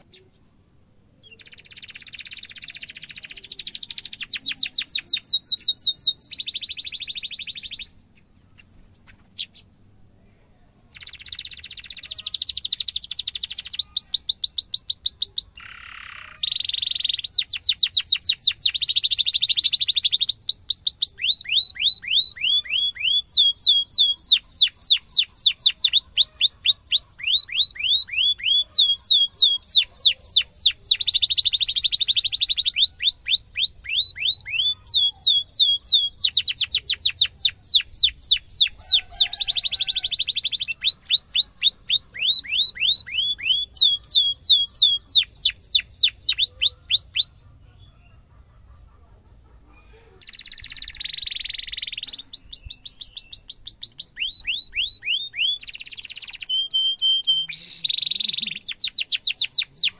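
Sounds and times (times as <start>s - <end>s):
canary singing trills: 0.0s - 9.8s, 10.8s - 48.8s, 49.7s - 59.9s.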